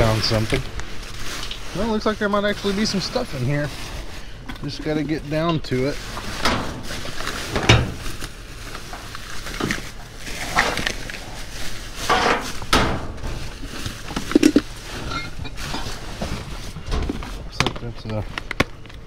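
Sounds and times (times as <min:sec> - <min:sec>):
plastic bags and cardboard rustling: 0:00.0 - 0:19.0.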